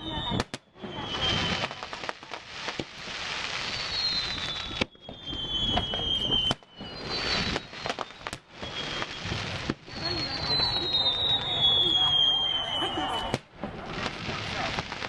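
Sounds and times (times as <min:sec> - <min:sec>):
fireworks bangs: 0:00.0 - 0:15.0
fireworks crackling: 0:00.0 - 0:15.0
fireworks whistling: 0:00.0 - 0:15.0.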